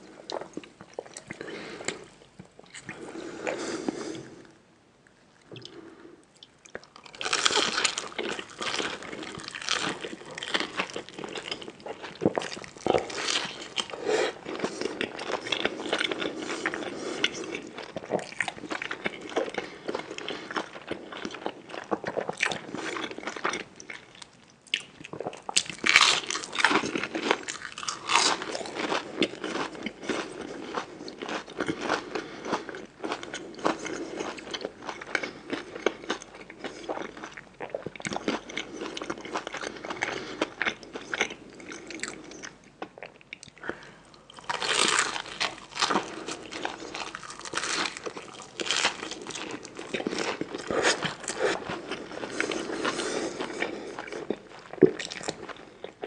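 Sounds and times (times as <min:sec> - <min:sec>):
crunchy food being chewed: 0:05.3 - 0:56.0.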